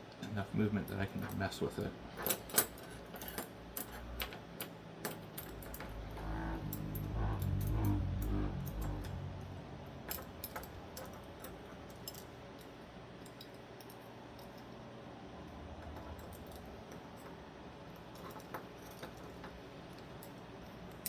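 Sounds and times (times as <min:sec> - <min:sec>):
small metal parts clicking: 0:02.1 - 0:14.7, 0:15.8 - 0:21.0.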